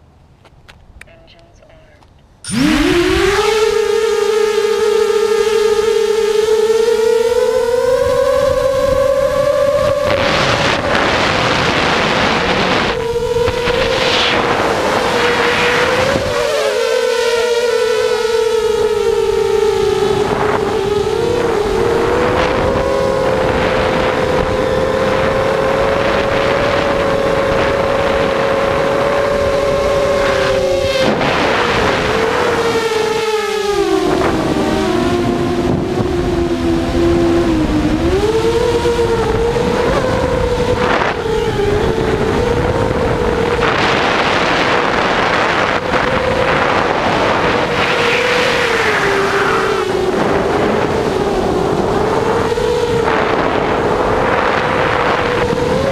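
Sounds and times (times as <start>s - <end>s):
drone motors whining: 1.6s - 55.9s
wind rushing over microphone: 2.4s - 55.9s.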